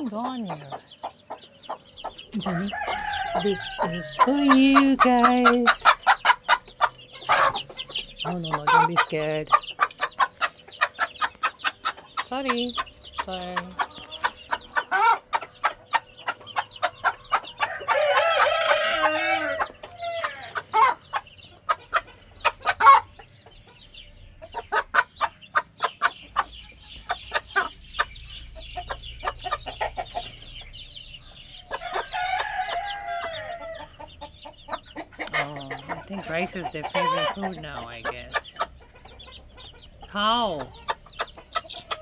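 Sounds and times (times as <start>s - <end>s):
chicks peeping: 0.0s - 42.0s
hen clucking: 0.0s - 42.0s.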